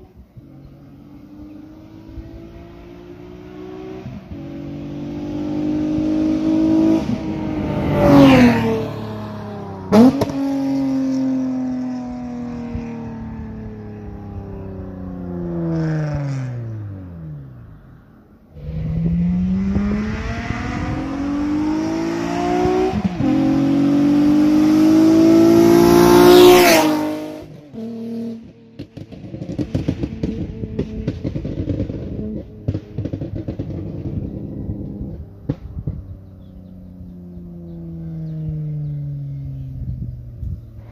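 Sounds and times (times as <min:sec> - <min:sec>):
car engine revving in fly-by: 0:00.0 - 0:40.9
exhaust crackling: 0:05.9 - 0:40.9.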